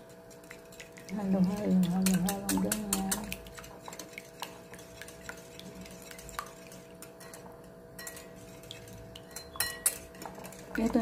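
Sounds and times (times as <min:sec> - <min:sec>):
whisk beating batter: 0:00.0 - 0:11.0.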